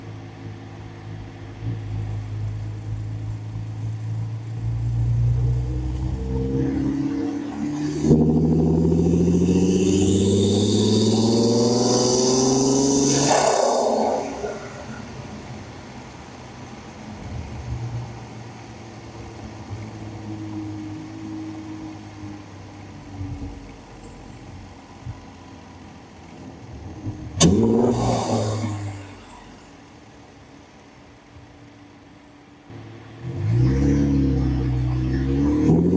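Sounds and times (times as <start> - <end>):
car engine running steadily: 0.0 - 6.7, 7.4 - 35.9.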